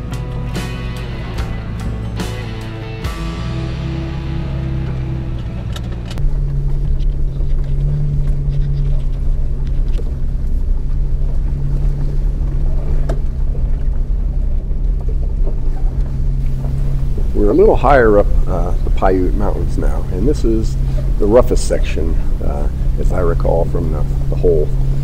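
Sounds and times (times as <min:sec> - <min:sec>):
truck engine drone: 0:00.0 - 0:25.0.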